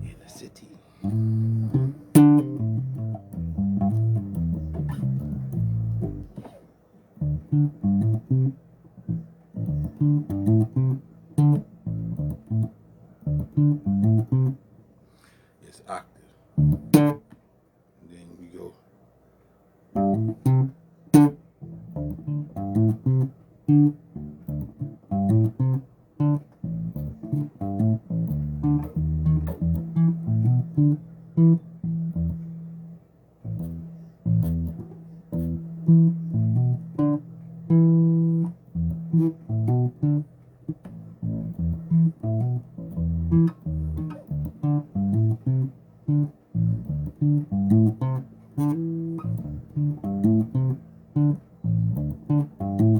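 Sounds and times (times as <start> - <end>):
plucked bass guitar notes: 1.0 - 6.5, 7.2 - 14.6, 16.6 - 17.2, 20.0 - 52.9.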